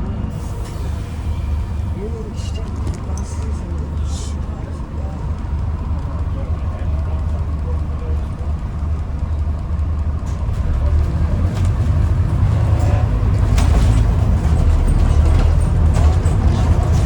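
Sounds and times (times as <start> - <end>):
bus diesel engine rumble: 0.0 - 17.0
road noise: 0.0 - 17.0.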